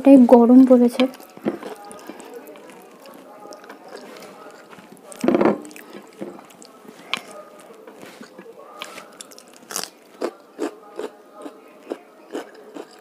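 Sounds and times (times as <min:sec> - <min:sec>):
wet chewing: 0:01.0 - 0:13.0
fingers mixing rice on plate: 0:01.1 - 0:13.0.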